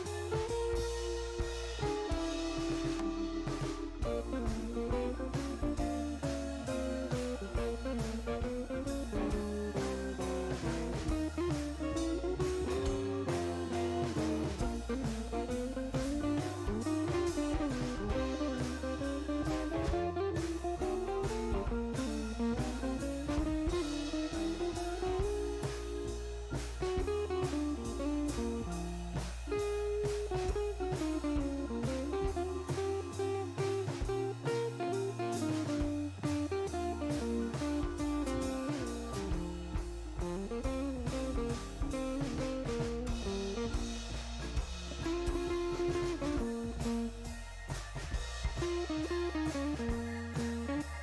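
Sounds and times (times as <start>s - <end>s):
guitar-led instrumental music: 0.0s - 51.0s.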